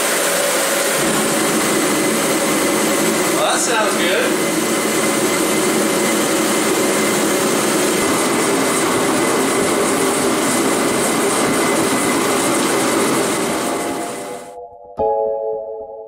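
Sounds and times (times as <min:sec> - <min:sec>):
heater blower and burner rushing: 0:00.0 - 0:14.6.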